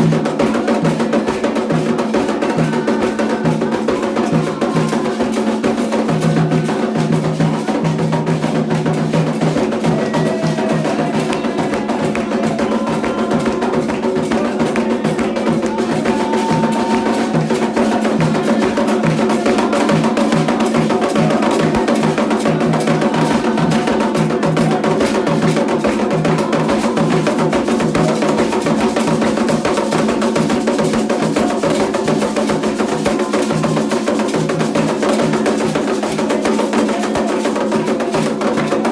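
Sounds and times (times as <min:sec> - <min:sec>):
hand drums playing fast rhythm: 0:00.0 - 0:38.9
wood block beat: 0:00.0 - 0:38.9.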